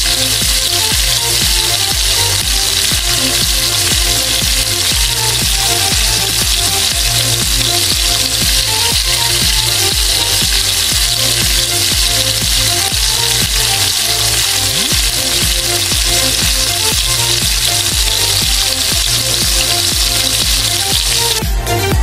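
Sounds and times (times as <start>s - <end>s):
spring rolls sizzling in hot oil: 0.0s - 21.4s
background music with steady beat: 0.0s - 22.0s.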